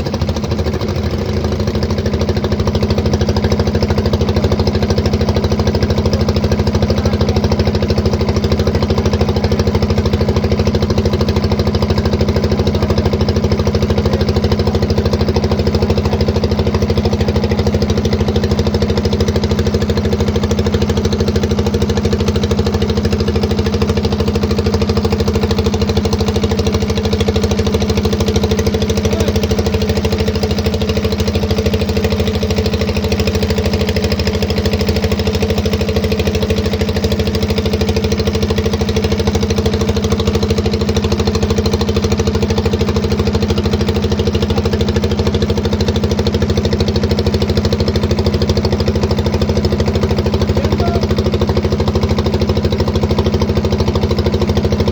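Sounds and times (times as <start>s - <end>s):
boat engine chugging: 0.0s - 54.9s.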